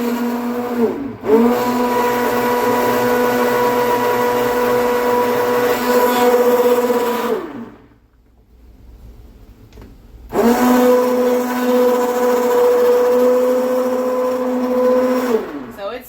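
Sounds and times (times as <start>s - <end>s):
immersion blender motor whining: 0.0s - 7.8s, 10.3s - 16.0s.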